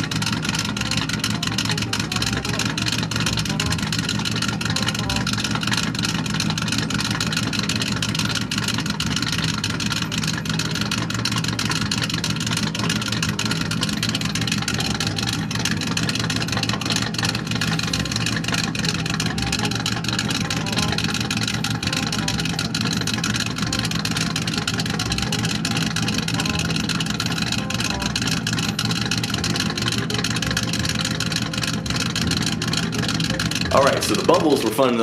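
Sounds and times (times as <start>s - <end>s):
car exhaust idling: 0.0s - 35.0s.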